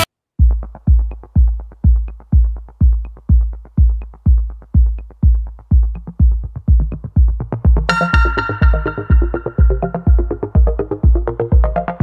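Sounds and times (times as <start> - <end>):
electronic dance music: 0.0 - 12.0
heavy bass kick drum: 0.0 - 12.0
hi-hat ticks: 0.5 - 11.9.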